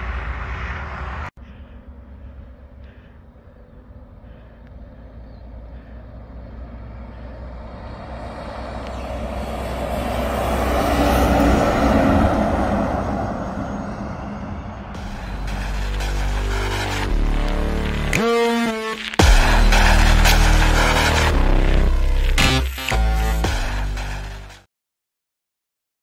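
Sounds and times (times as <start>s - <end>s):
truck passing: 0.0s - 24.5s.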